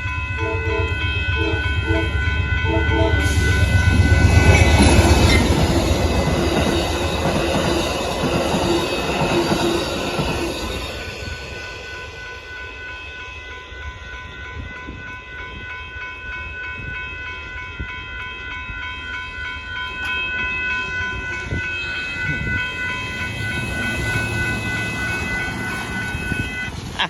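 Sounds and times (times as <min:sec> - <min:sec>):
crossing warning bell ringing: 0:00.0 - 0:27.0
train rumbling past on rails: 0:00.0 - 0:27.0.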